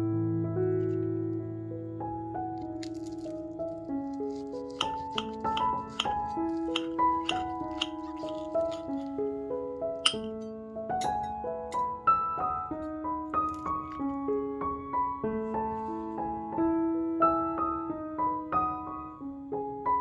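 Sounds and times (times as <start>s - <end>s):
gentle solo piano melody: 0.0s - 20.0s.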